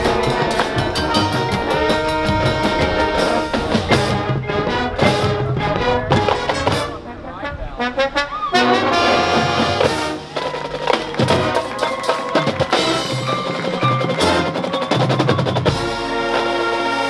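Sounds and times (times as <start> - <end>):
fast drumline strokes: 0.0 - 7.2, 7.8 - 17.0
marching band playing: 0.0 - 17.0.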